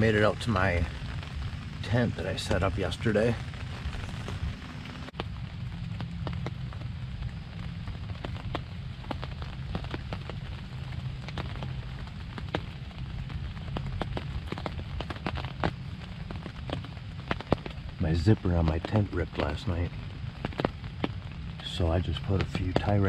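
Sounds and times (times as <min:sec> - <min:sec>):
raindrops ticking on fabric: 0:00.0 - 0:23.0
steady low rumble: 0:00.0 - 0:23.0.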